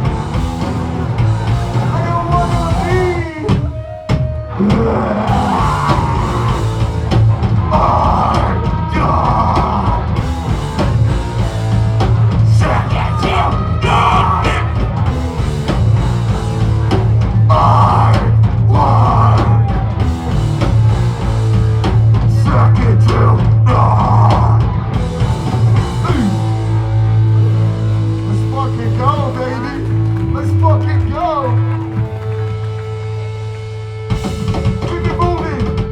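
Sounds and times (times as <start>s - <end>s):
pounding drum kit: 0.0s - 35.9s
rock band playing live: 0.0s - 35.9s.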